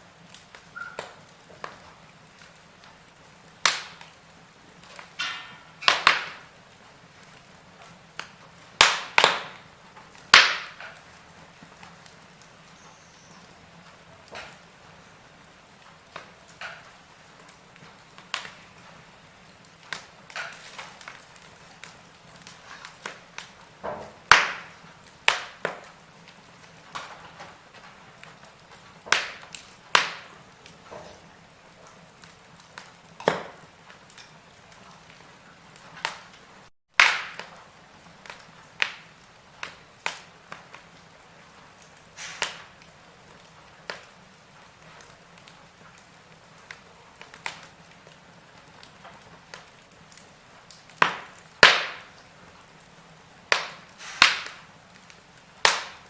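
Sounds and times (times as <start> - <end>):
faint steady hiss: 0.0 - 56.0
wood fire crackling and popping: 0.0 - 56.0.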